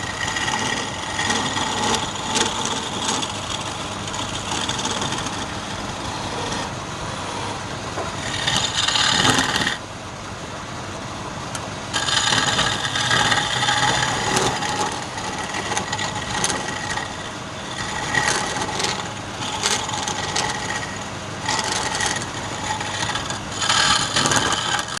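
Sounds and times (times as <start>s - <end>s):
turning tool scraping wood: 0.0s - 9.8s, 11.9s - 25.0s
lathe humming: 0.0s - 25.0s.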